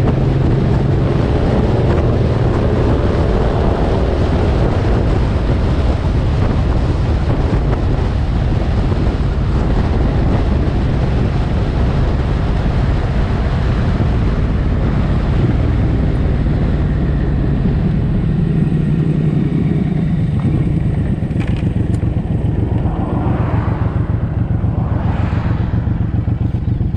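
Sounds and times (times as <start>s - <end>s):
motorcycle engine riding: 0.0s - 26.9s
wind rush over microphone: 0.0s - 26.9s.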